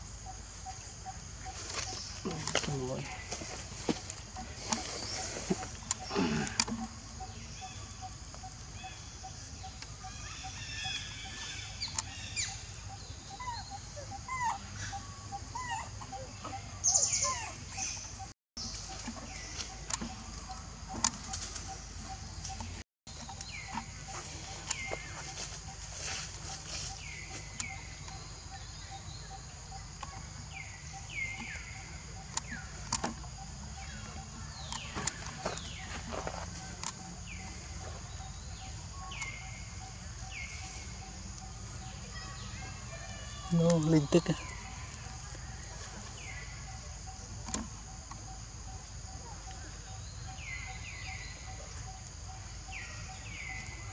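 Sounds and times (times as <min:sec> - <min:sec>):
insect drone: 0:00.0 - 0:18.0, 0:18.6 - 0:53.9.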